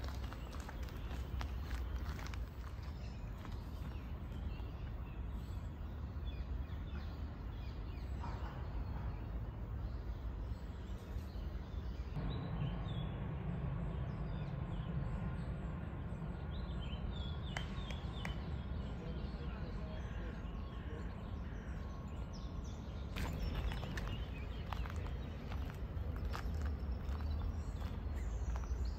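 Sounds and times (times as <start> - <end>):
steady low rumble: 0.0 - 10.8, 11.6 - 19.3, 23.0 - 28.9
birds chirping: 0.0 - 28.9.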